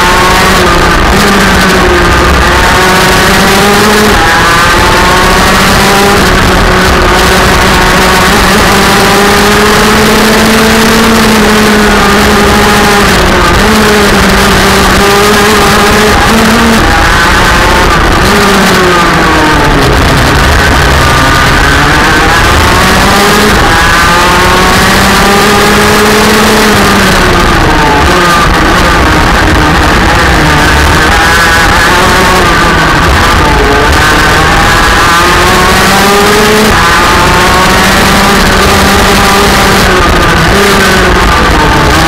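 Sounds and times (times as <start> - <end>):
kart engine racing: 0.0 - 42.0.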